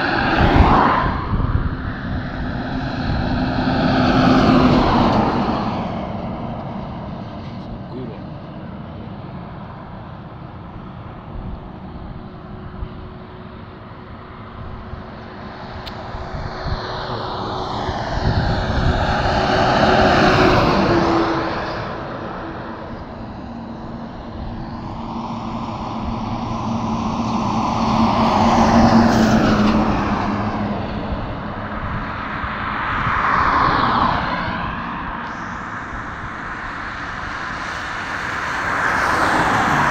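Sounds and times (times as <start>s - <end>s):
vehicles passing on highway: 0.0s - 39.9s.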